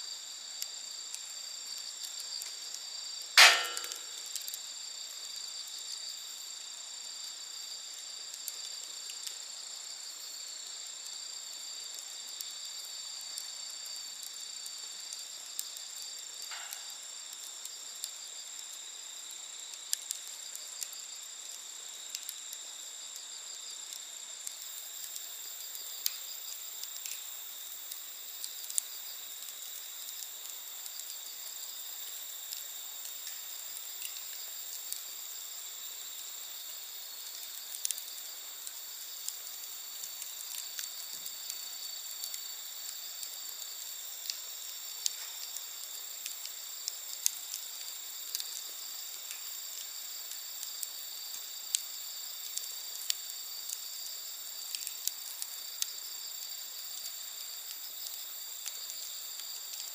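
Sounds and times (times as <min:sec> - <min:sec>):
crickets chirping: 0:00.0 - 0:59.9
campfire crackling and popping: 0:00.3 - 0:59.9.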